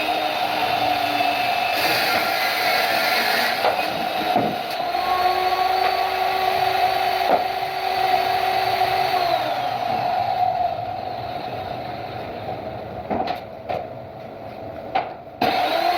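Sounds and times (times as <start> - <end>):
power machinery whine: 0.0 - 13.0, 15.4 - 15.9.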